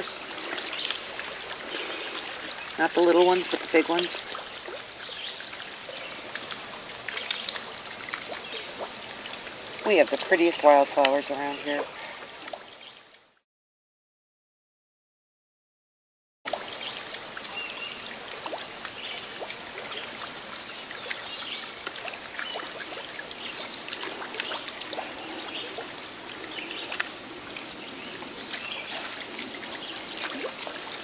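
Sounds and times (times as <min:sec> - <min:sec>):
river water trickling: 0:00.0 - 0:13.4, 0:16.5 - 0:31.0.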